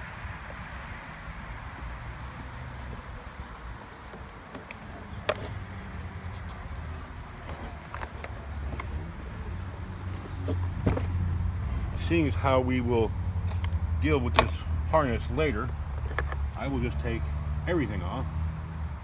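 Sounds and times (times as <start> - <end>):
plastic parts clicking and knocking: 0.2 - 12.0, 13.4 - 19.0.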